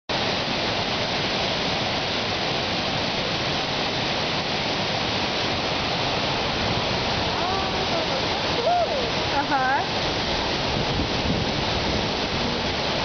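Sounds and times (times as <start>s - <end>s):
waterfall rushing: 0.1s - 13.0s.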